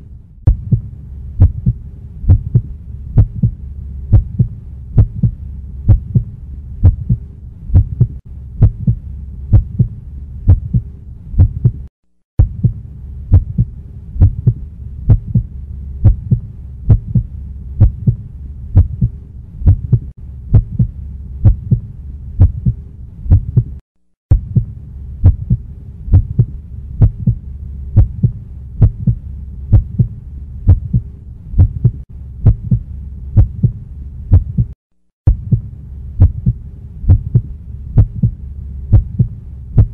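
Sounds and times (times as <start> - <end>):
low hum: 0.0 - 39.9
low thumping pulse: 0.4 - 39.9.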